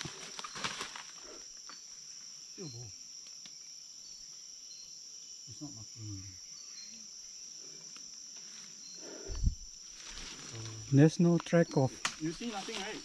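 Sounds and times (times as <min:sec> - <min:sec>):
chorus of forest insects: 0:00.0 - 0:13.0.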